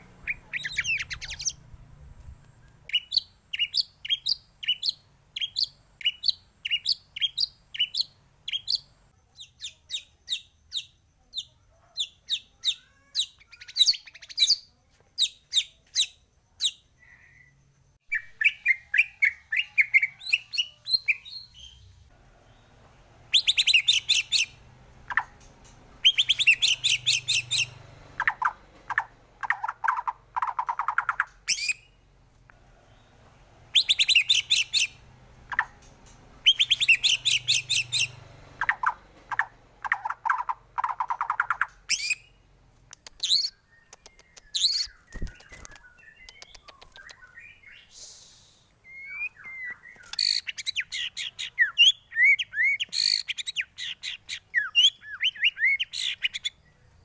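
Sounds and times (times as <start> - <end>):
bird singing trills and whistles: 0.0 - 1.6, 2.6 - 21.9, 23.3 - 32.0, 33.7 - 35.8, 36.4 - 42.4, 43.0 - 57.0.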